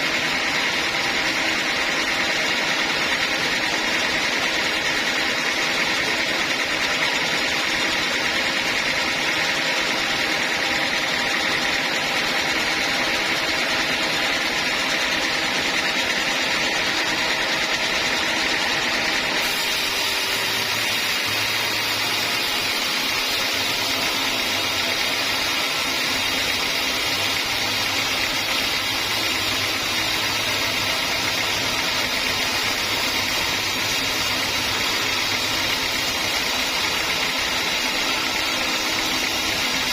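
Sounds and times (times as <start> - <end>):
band saw cutting logs: 0.0 - 39.9.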